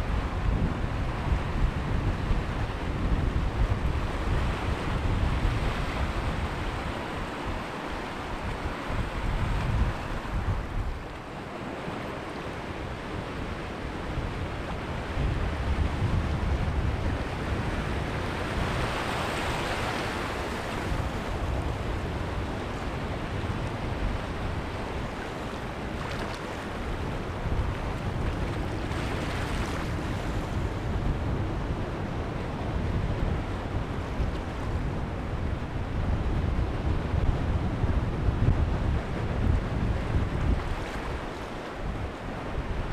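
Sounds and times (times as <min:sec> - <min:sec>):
surf washing over sand: 0:00.0 - 0:42.9.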